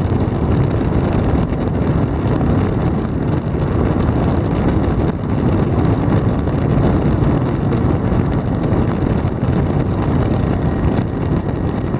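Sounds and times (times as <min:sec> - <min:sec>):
helicopter rotor and engine noise: 0:00.0 - 0:11.9
wind on microphone: 0:00.0 - 0:11.9.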